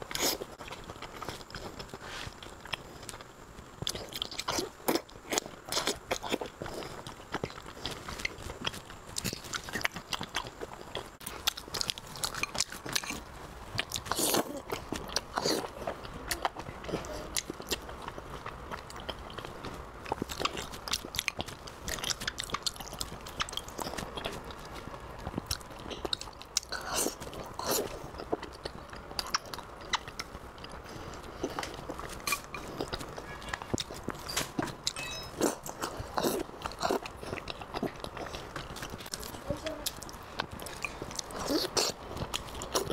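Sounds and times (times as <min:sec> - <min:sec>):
close chewing with mouth clicks: 0:00.0 - 0:42.9.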